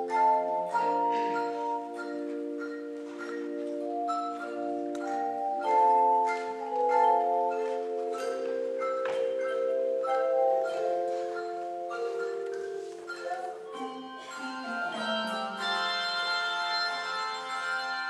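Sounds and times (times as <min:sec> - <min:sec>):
handbell choir playing: 0:00.0 - 0:18.0.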